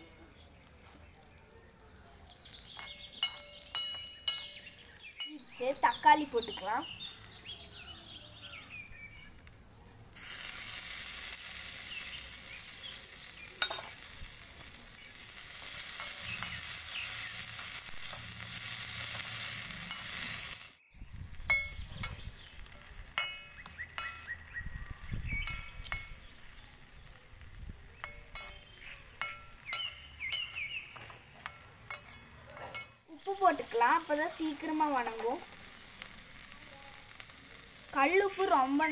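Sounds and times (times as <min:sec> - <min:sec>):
tomatoes sizzling in hot oil: 0:00.0 - 0:38.9.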